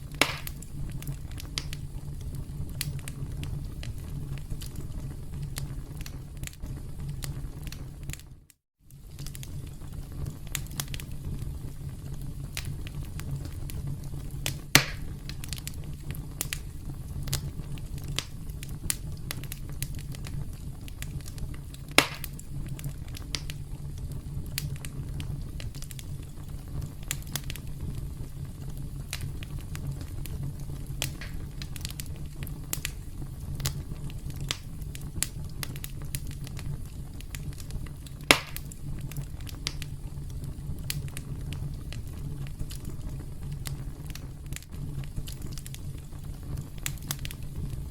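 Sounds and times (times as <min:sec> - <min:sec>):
sharp pops of burning wood: 0:00.0 - 0:02.1, 0:09.0 - 0:11.2, 0:12.1 - 0:47.9
campfire crackling: 0:00.0 - 0:47.9.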